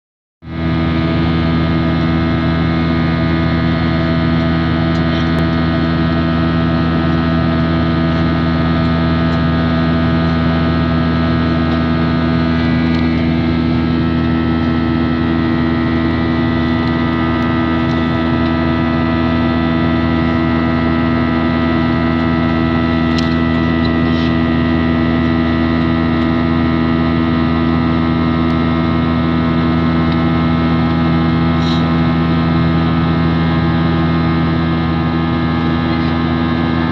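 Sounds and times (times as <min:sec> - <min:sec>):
airliner engines droning: 0:00.6 - 0:36.9.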